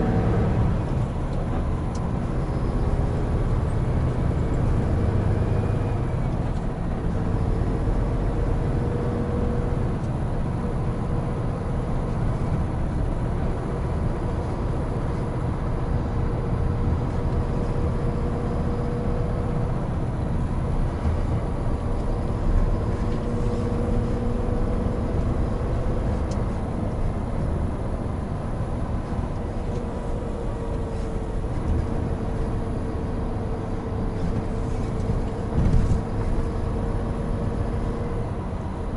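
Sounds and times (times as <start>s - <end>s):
road and tyre noise: 0.0s - 38.9s
truck diesel engine drone: 0.0s - 38.9s.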